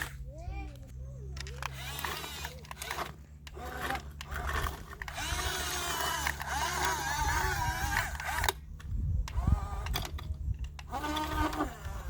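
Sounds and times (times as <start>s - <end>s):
small electric motor whirring: 1.2s - 12.0s.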